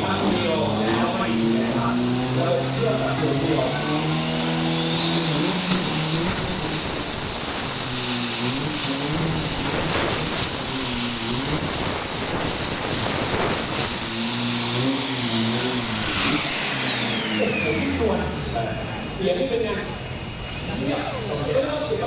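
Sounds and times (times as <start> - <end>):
diesel engine running: 0.0 - 22.0
turbocharger whistling: 0.0 - 22.0.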